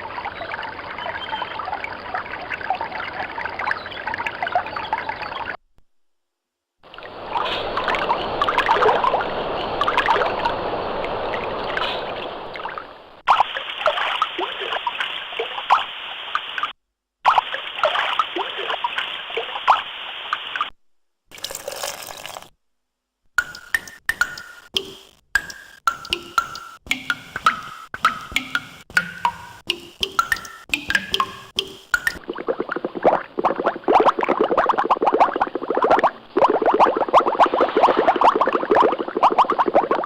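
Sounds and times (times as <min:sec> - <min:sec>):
water trickling and splashing: 0:00.0 - 0:05.6, 0:06.8 - 0:20.7, 0:21.3 - 0:22.5, 0:23.4 - 0:40.0.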